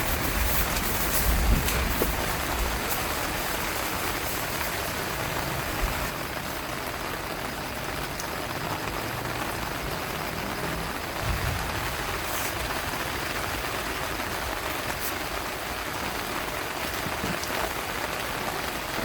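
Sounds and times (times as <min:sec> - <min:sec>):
wind and rain rushing: 0:00.0 - 0:19.0.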